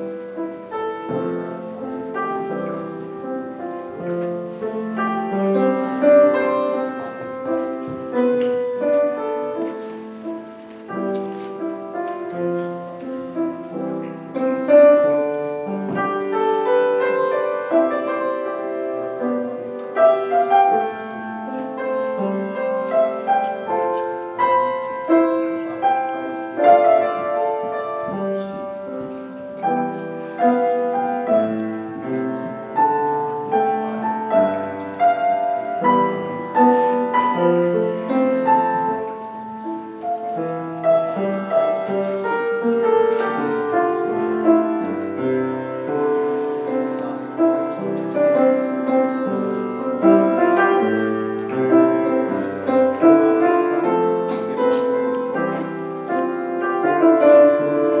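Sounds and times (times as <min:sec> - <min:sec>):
piano piece: 0:00.0 - 0:58.0.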